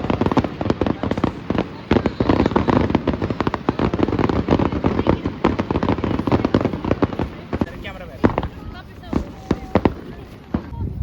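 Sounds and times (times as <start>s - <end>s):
fireworks pops and bangs: 0.0s - 11.0s.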